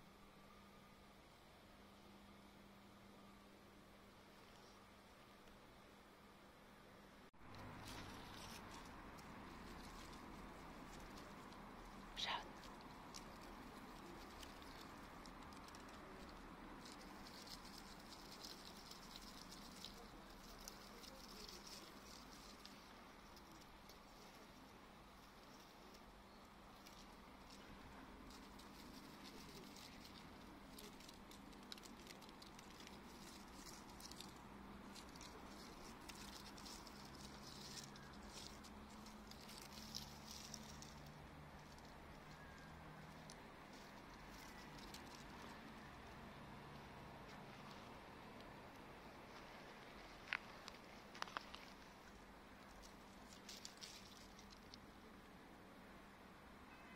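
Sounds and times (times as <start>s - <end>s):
faint high hiss: 0.0s - 56.9s
faint low hum: 0.0s - 56.9s
light ticks and crackles: 7.4s - 55.5s.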